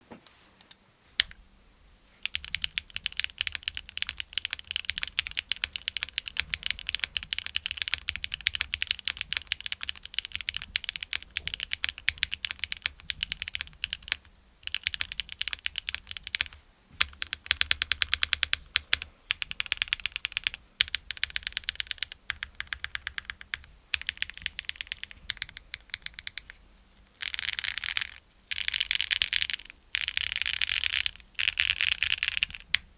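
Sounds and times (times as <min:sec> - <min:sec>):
mechanical keyboard typing: 0:02.2 - 0:26.6, 0:27.2 - 0:32.9.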